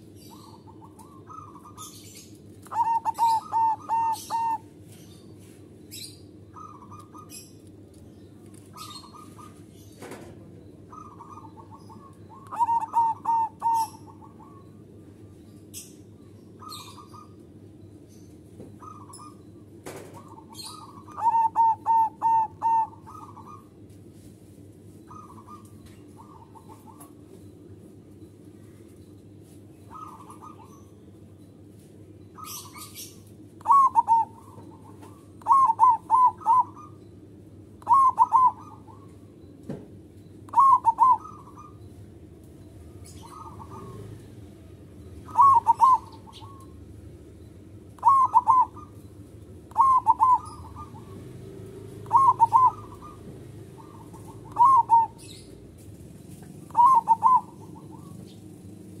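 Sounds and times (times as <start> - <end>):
dove cooing: 0.0 - 7.6, 8.5 - 15.1, 16.6 - 17.4, 18.7 - 23.9, 25.0 - 27.3, 29.8 - 30.9, 32.3 - 39.5, 40.5 - 59.0.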